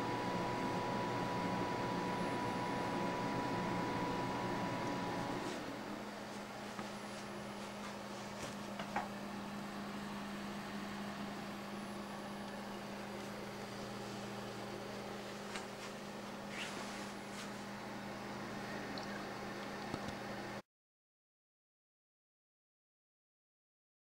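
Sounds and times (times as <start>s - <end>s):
computer fans whirring: 0.0s - 20.6s.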